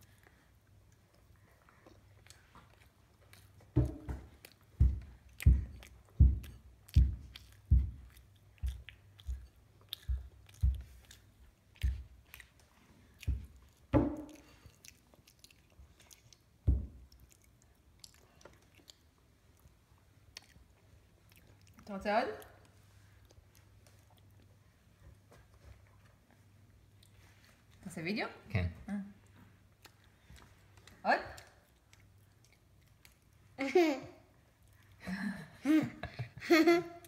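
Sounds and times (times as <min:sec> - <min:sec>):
child chewing food: 0:00.0 - 0:27.9, 0:28.9 - 0:33.6, 0:34.2 - 0:36.8.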